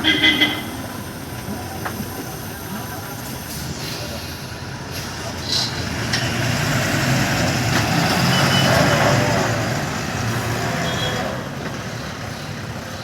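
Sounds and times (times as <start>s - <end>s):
heavy truck engine labouring: 0.0s - 13.0s.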